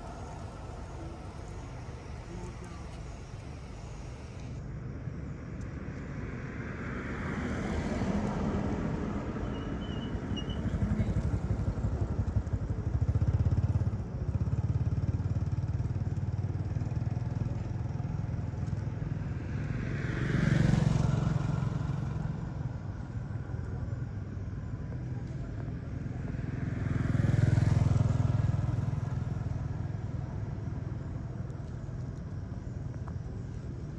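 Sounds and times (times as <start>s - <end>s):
road traffic rumble: 0.0s - 33.9s
vehicles passing: 0.0s - 33.9s.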